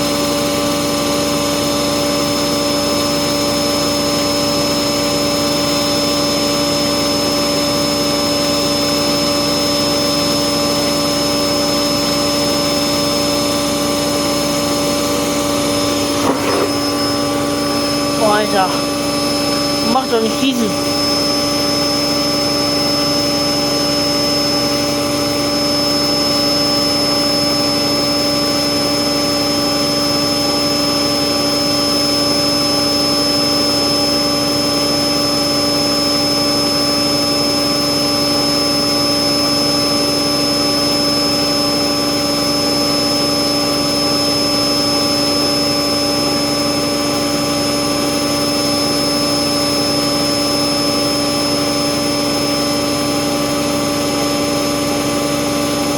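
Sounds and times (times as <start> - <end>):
washing machine whine and rushing: 0.0 - 55.9.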